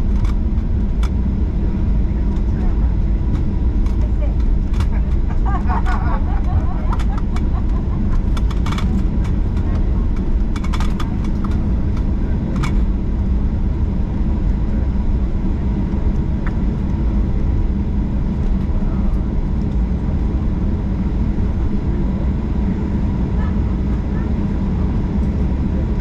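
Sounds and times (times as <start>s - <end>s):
jet engine rumble in cabin: 0.0s - 26.0s.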